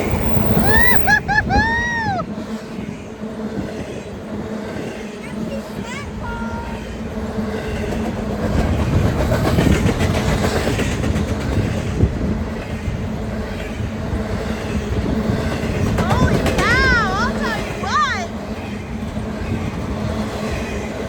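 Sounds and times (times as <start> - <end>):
railcar wheels clacking over joints: 2.6 - 21.0.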